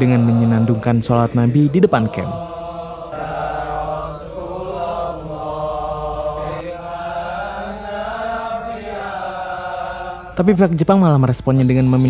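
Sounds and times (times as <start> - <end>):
men chanting in unison: 0.0 - 10.5.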